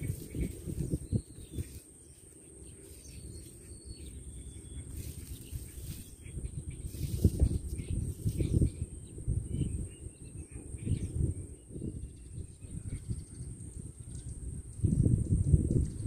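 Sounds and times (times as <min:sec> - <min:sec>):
faint bird chirps: 0:00.0 - 0:16.0
low rumbling crackling noise: 0:00.0 - 0:16.0
steady high-pitched whine: 0:00.0 - 0:16.0.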